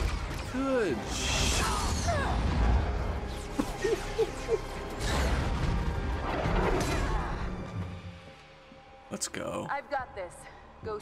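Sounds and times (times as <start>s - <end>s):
dramatic orchestral score: 0.0s - 11.0s.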